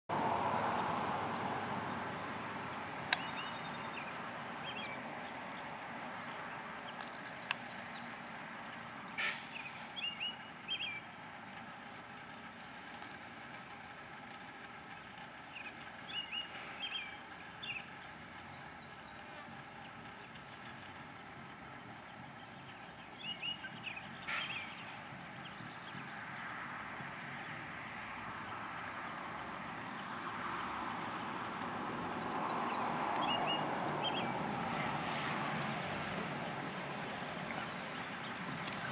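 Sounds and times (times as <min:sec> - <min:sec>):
passing vehicle: 0:00.1 - 0:38.9
birds chirping: 0:00.3 - 0:38.9.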